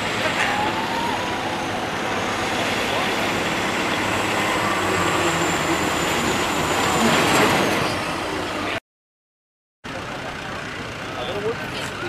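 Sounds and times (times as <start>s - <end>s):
diesel truck engine under load: 0.0s - 8.8s, 9.9s - 12.0s.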